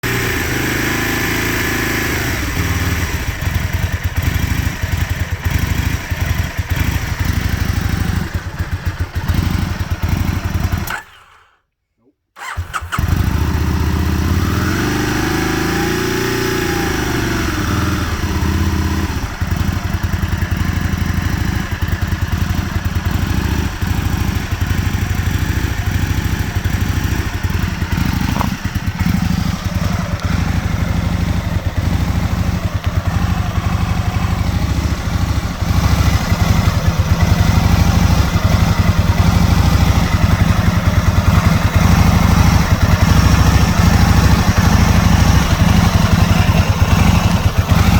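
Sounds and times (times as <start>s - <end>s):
motorcycle engine rough idle: 0.0s - 11.2s, 12.4s - 47.9s.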